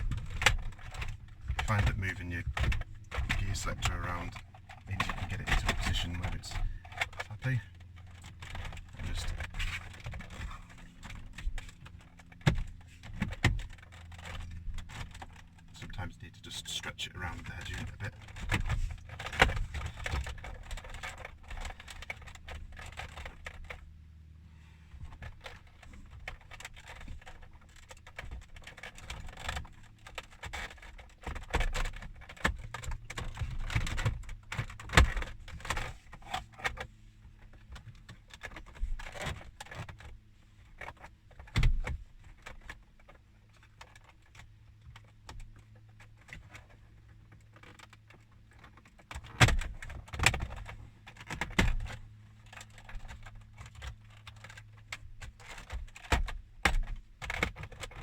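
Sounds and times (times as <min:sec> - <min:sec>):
plastic trim clicking and rattling: 0:00.0 - 0:24.0, 0:24.9 - 0:58.0
faint low hum: 0:00.0 - 0:58.0.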